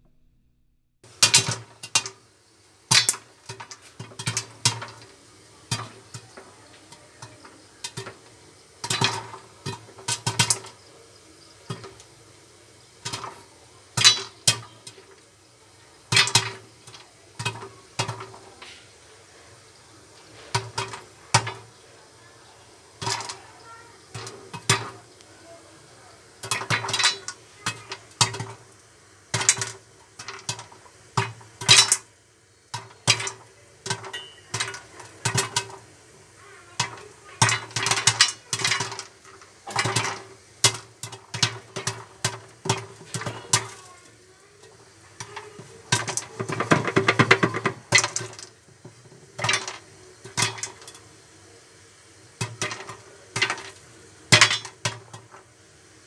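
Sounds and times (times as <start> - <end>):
popcorn popping in a covered pan: 1.0 - 56.0.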